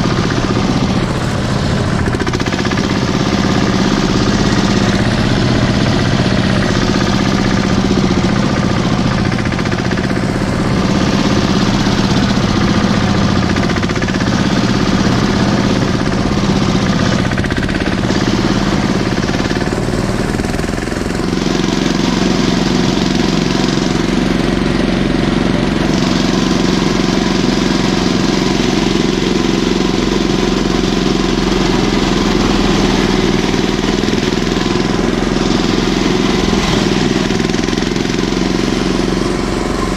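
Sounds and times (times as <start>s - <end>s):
tractor engine rattling: 0.0s - 39.9s.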